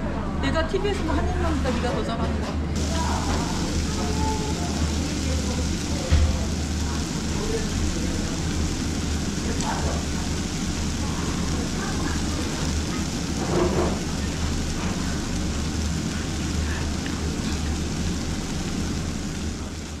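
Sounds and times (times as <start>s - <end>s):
low rumbling noise: 2.4s - 20.0s
even hiss: 2.8s - 20.0s.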